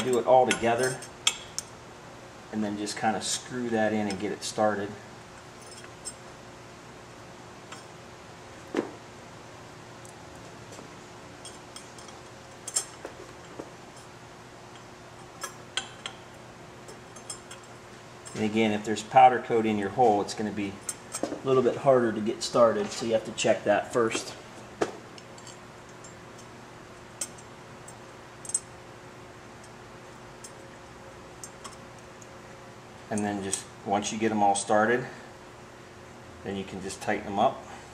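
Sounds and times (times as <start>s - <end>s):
faint background hum: 0.0s - 37.9s.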